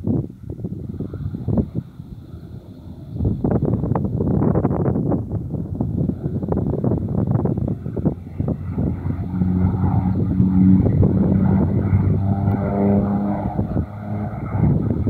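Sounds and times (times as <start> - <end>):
aircraft engine and propeller drone: 0.0 - 15.0
wind buffeting microphone: 0.0 - 15.0.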